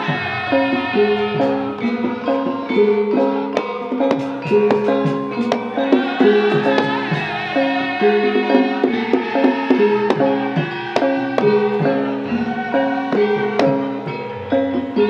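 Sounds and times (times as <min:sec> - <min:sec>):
sharp drum strokes: 0:00.0 - 0:14.2
instrumental melody: 0:00.0 - 0:15.0.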